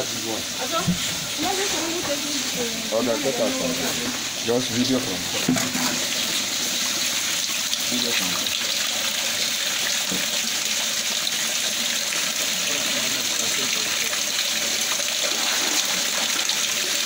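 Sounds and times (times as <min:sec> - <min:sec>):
water rushing in a tank: 0:00.0 - 0:17.0.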